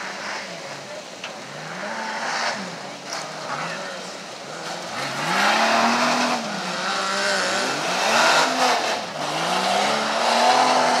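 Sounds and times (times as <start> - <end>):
truck engine revving hard: 1.4 - 11.0.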